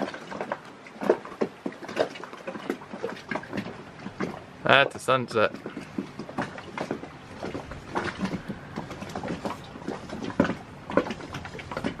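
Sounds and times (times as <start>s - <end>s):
small splashes and knocks: 0.0s - 12.0s
water lapping: 0.0s - 12.0s.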